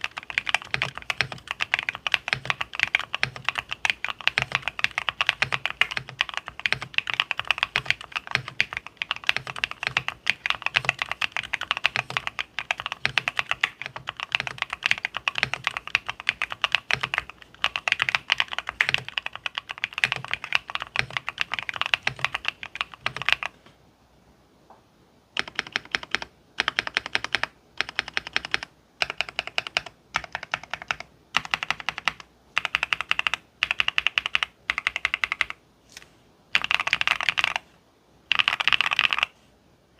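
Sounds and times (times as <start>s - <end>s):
mechanical keyboard typing: 0.0s - 23.6s, 25.4s - 35.6s, 36.5s - 37.6s, 38.3s - 39.3s.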